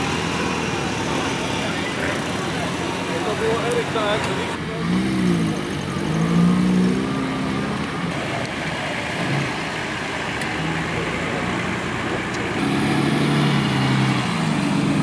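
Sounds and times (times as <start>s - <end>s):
off-road vehicles driving slowly: 0.0s - 15.0s
steady engine hum: 0.0s - 15.0s.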